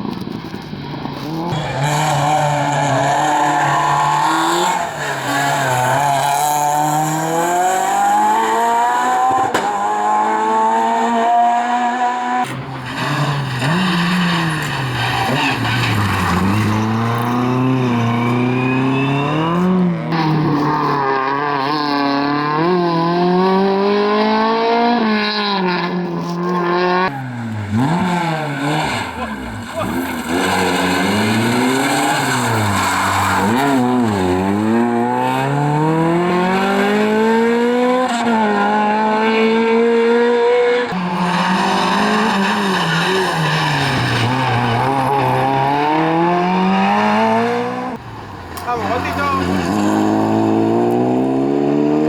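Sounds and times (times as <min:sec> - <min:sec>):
rally car engines revving: 0:00.0 - 0:52.0.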